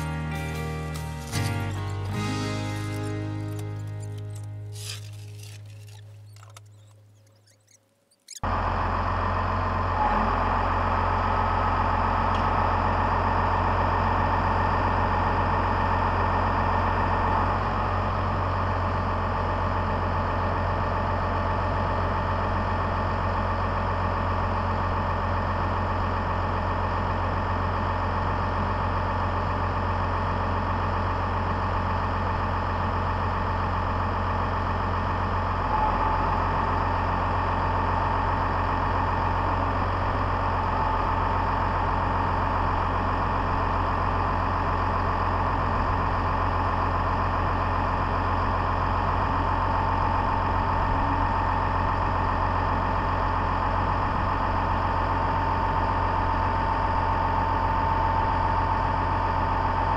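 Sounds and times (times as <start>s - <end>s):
tractor diesel engine idling: 0.0s - 7.1s, 8.4s - 59.9s.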